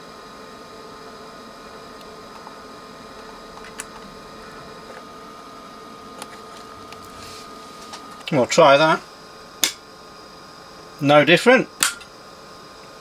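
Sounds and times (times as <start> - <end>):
faint hum: 0.0 - 13.0
steady hiss: 1.0 - 13.0.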